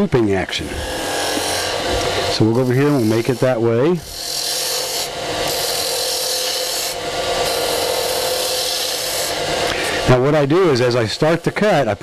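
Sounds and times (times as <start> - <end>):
faint lathe hum: 0.0 - 12.0
lathe tool scraping wood: 0.0 - 12.0.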